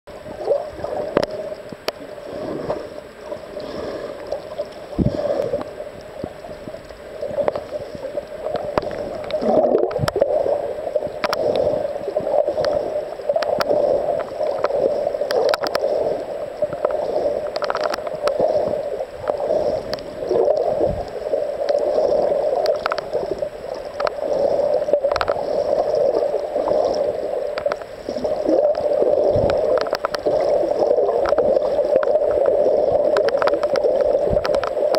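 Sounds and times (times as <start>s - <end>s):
sharp underwater clicks and crackles: 0.1s - 34.9s
underwater wash and gurgling: 0.1s - 34.9s.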